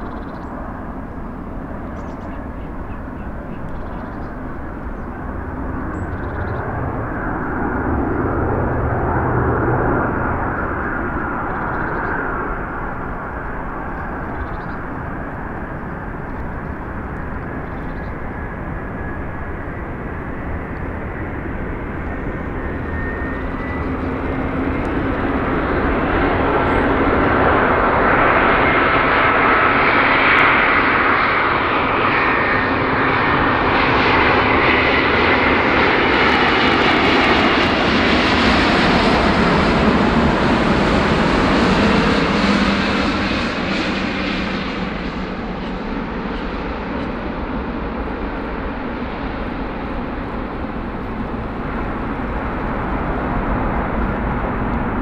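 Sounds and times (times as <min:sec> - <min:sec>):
jet airliner landing: 0:00.0 - 0:55.0.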